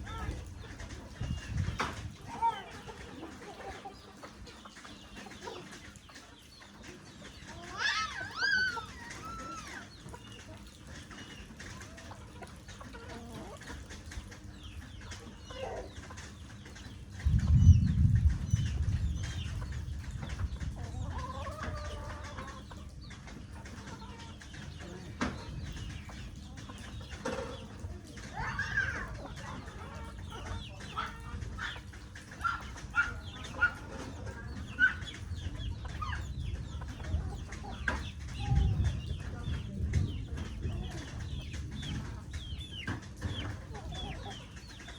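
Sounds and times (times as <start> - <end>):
chickens clucking: 0.0 - 44.9
rain pattering: 0.0 - 44.9.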